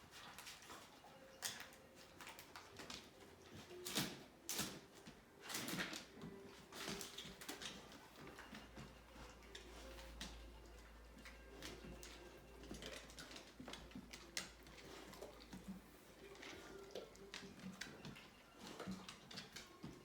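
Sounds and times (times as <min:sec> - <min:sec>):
dog chewing cardboard: 0:00.0 - 0:20.0.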